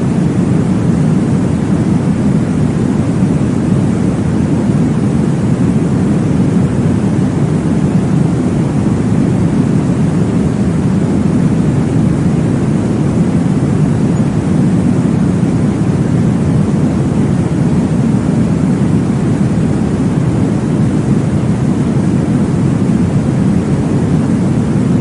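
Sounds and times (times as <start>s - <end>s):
deep white noise rushing: 0.0s - 25.0s.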